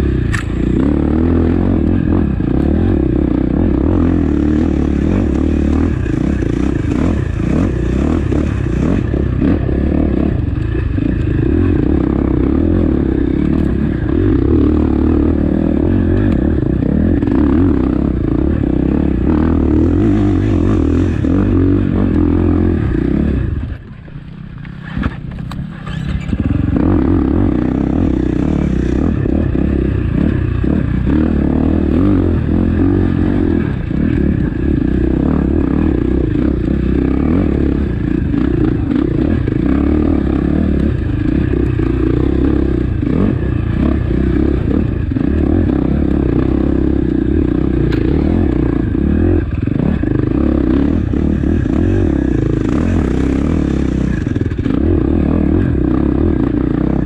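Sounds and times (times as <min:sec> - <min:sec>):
motorbike engine running hard: 0:00.0 - 0:57.0.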